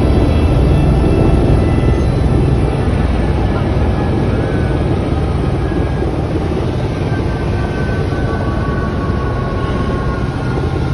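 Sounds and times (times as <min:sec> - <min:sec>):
vehicle engine rumble: 0:00.0 - 0:10.9.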